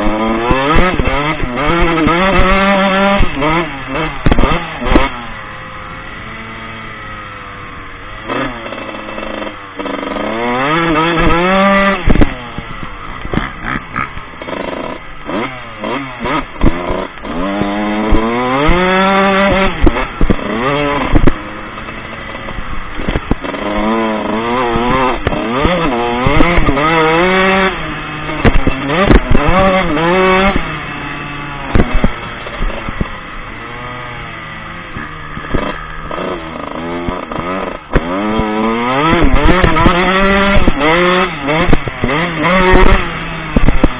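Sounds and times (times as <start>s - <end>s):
motocross bike engine revving: 0.0s - 43.9s
wind thumps: 0.3s - 5.3s, 8.2s - 30.8s, 31.6s - 43.9s.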